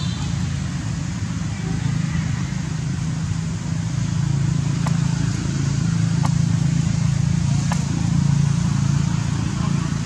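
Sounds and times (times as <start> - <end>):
motor droning: 0.0 - 10.0.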